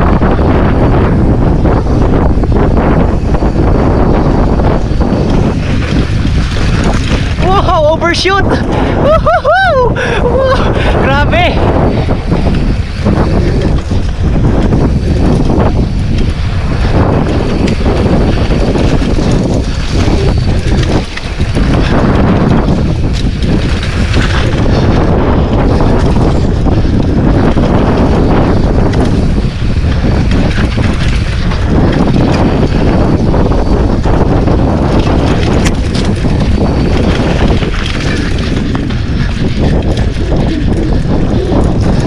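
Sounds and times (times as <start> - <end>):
bike rattling on rough trail: 0.0 - 42.0
wind buffeting microphone: 0.0 - 42.0.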